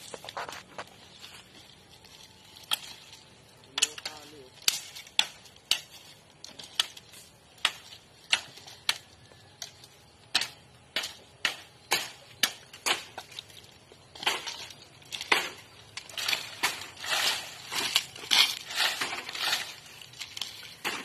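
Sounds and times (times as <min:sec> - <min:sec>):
blade chopping bamboo stalks: 0:00.0 - 0:21.0.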